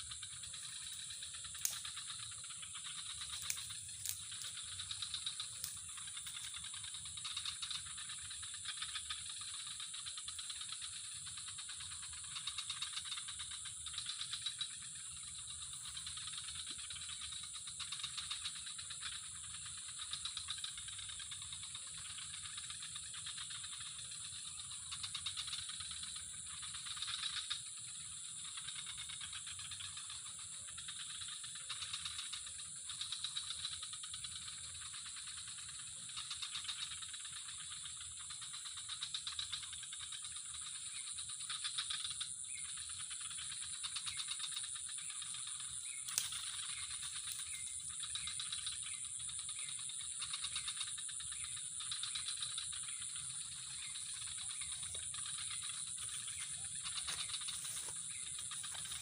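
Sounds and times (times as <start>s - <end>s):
insect chorus buzzing and trilling: 0.0s - 59.0s.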